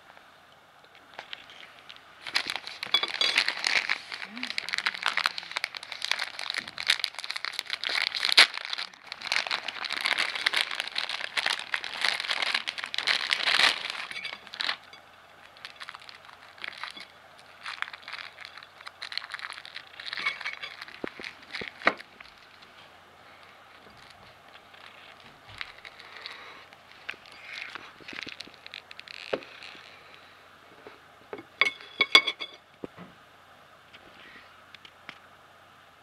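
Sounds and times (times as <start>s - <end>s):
plastic wrapper crinkling: 0.9s - 30.3s.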